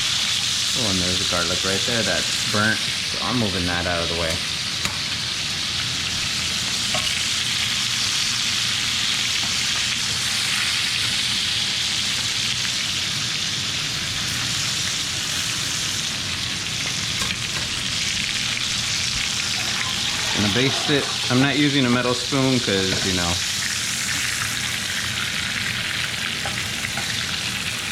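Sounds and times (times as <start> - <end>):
meat sizzling in hot oil: 0.0 - 27.9.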